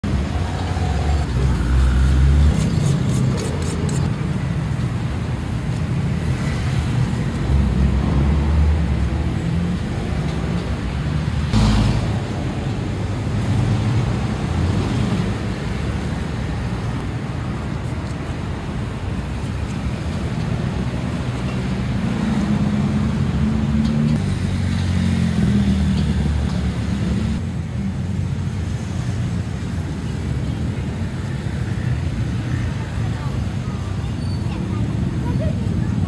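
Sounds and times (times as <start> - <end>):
road traffic rumbling: 0.0 - 36.0.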